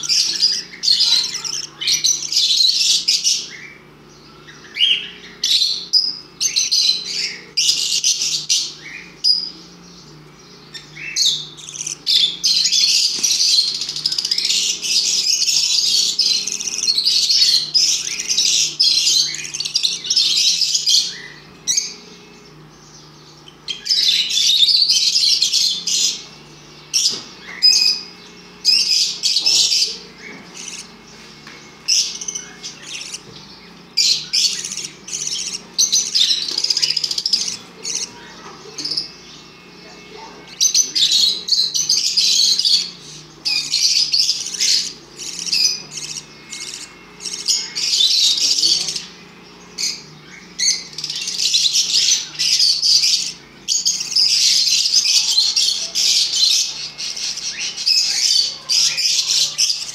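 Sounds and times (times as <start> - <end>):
bird chick chirping: 0.0 - 59.9.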